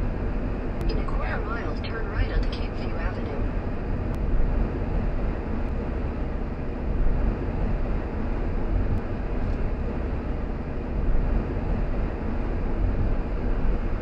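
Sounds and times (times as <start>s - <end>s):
car road noise: 0.0s - 14.0s
wind: 0.0s - 14.0s.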